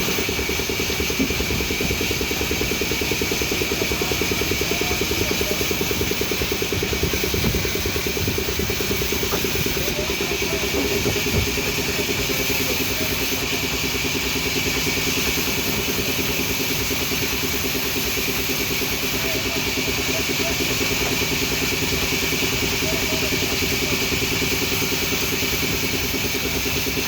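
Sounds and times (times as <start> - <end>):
band saw running: 0.0 - 27.0.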